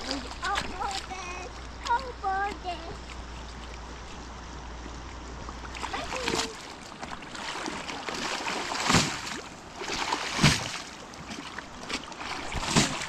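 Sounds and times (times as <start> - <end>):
river water running: 0.0 - 13.0
water splashes: 0.0 - 13.0.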